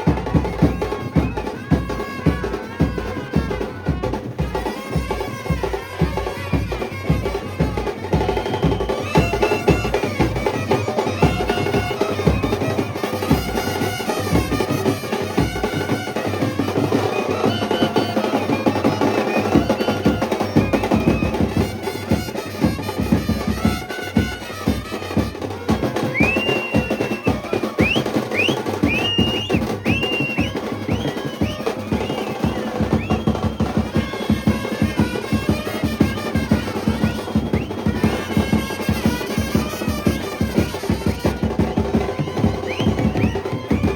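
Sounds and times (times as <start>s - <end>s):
bass drum and snare drumming: 0.0s - 43.9s
brass band playing a melody: 0.0s - 43.9s.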